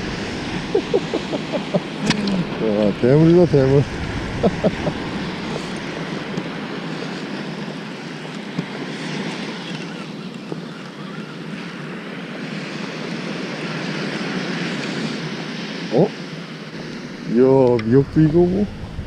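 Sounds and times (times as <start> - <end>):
ocean surf: 0.0 - 19.0
wind on microphone: 0.0 - 19.0.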